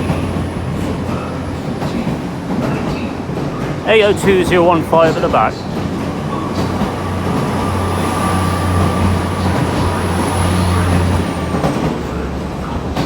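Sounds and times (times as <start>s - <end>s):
train diesel engine hum: 0.0s - 13.0s.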